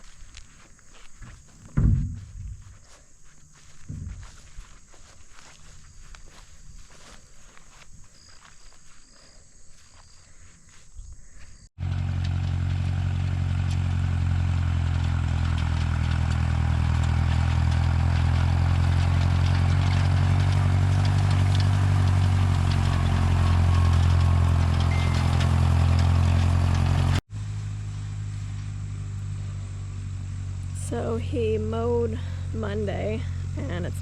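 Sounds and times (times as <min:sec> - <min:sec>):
tractor engine running: 0:00.0 - 0:07.8, 0:11.8 - 0:34.0.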